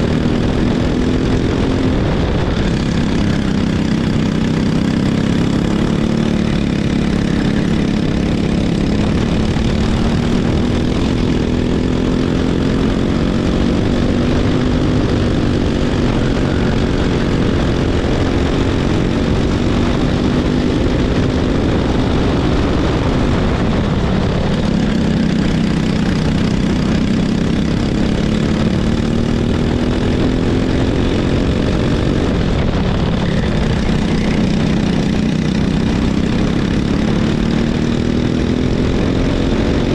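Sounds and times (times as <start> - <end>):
racing kart engine: 0.0 - 39.9.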